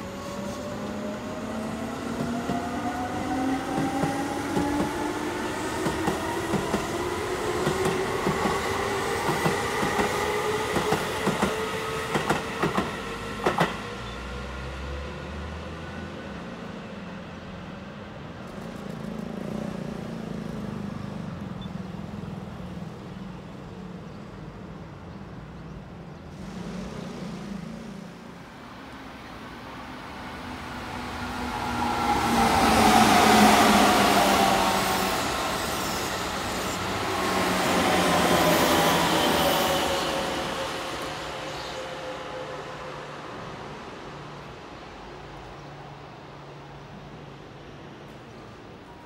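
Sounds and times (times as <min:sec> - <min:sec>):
electric train passing: 0:00.0 - 0:20.1, 0:26.3 - 0:49.0.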